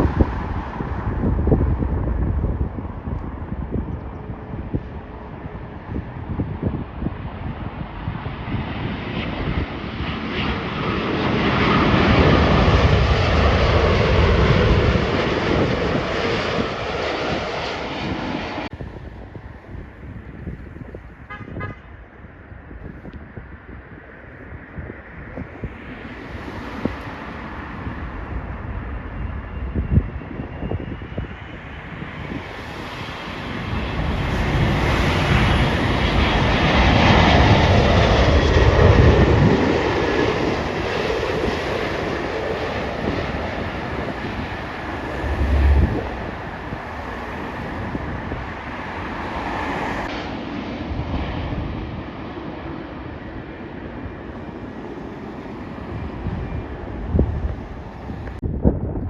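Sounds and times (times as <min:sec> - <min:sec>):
jet airliner passing: 0:00.0 - 0:59.0
wind buffeting microphone: 0:00.0 - 0:59.0.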